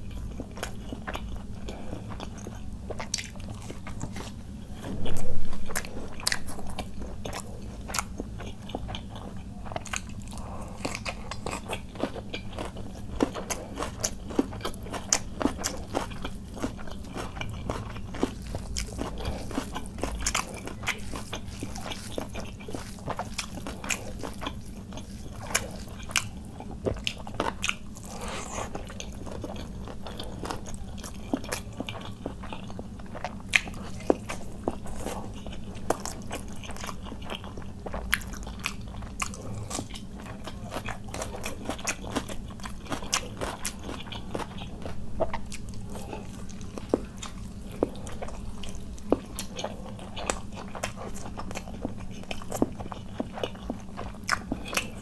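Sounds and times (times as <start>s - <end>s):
close chewing of food: 0.0s - 55.0s.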